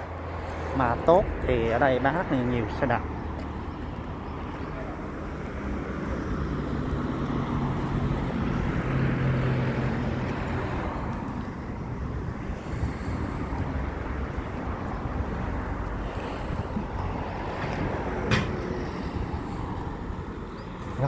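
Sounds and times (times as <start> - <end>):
background traffic: 0.0 - 21.0
vehicle engine hum passing: 0.0 - 21.0.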